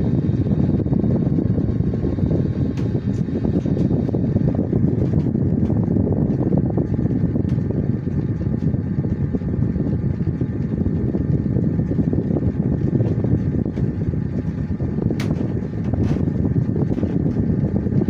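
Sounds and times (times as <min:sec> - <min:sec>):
faint steady hum: 0:00.0 - 0:18.0
steady low rumble: 0:00.0 - 0:18.0.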